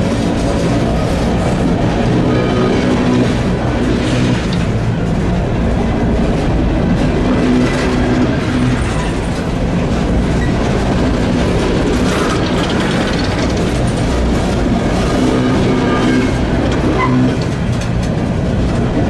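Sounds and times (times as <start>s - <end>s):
clickety-clack over rail joints: 0.0s - 19.0s
train wheels rumbling on rails: 0.0s - 19.0s.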